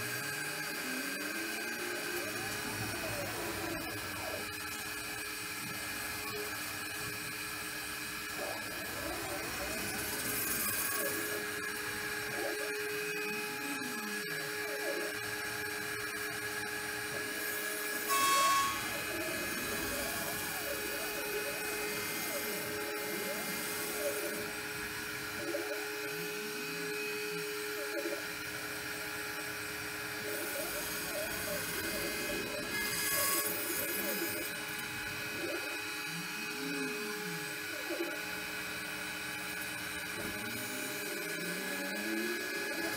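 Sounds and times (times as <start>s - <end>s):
steady machine tones: 0.0s - 42.9s
stepper motors whining: 0.0s - 42.9s.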